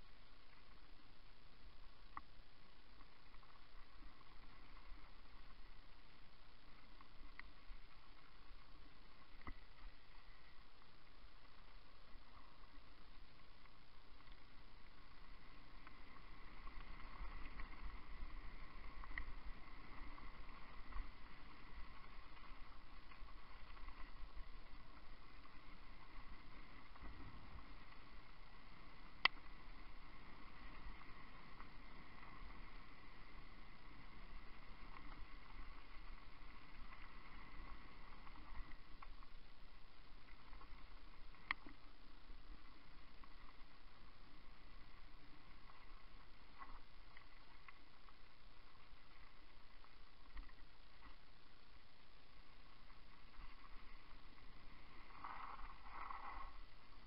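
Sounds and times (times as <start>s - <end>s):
bike tyres rumbling on trail: 2.0s - 57.0s.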